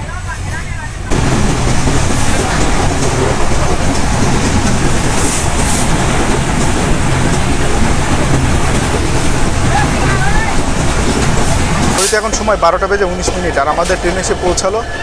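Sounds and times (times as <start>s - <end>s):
train rumbling and rushing: 0.0s - 15.0s.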